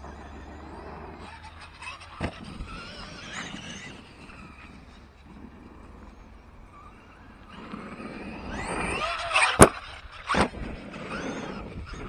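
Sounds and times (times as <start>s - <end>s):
electric toy truck motor whining: 0.0s - 12.0s.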